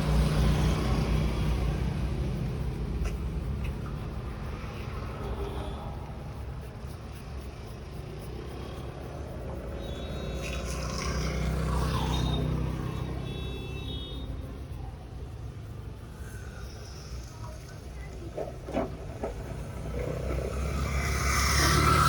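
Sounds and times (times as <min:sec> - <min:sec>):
vehicle engine rumble passing: 0:00.0 - 0:22.0.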